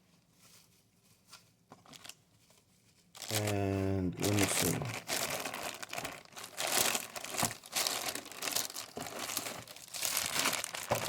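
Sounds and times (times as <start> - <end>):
packaging crinkling and rustling: 0.3 - 11.0.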